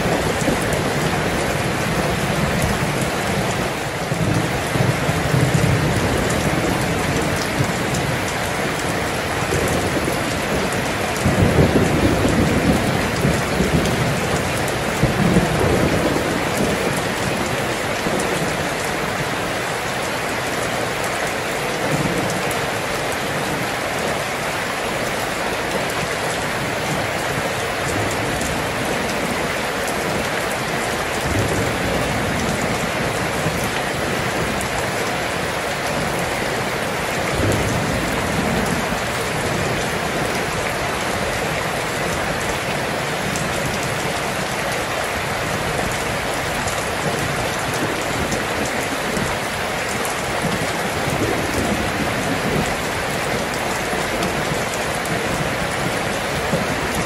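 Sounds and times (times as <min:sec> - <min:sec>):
rain hiss: 0:00.0 - 0:57.0
thunder rumbles: 0:00.0 - 0:57.0.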